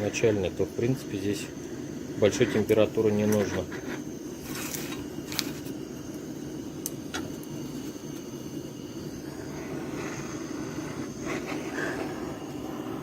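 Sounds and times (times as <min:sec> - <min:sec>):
gas torch flame rushing: 0:00.0 - 0:13.0.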